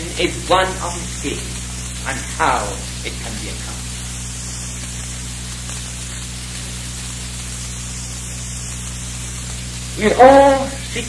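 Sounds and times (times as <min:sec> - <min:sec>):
low even hum: 0:00.0 - 0:11.0
steady recording hiss: 0:00.0 - 0:11.0.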